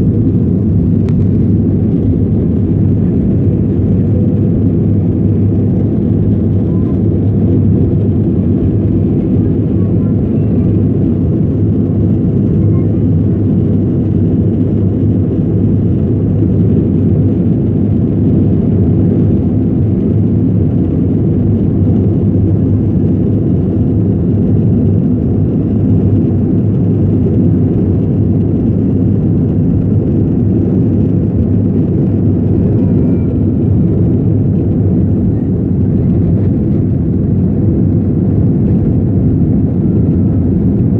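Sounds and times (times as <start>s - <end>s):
aircraft engines rumbling: 0.0s - 40.9s.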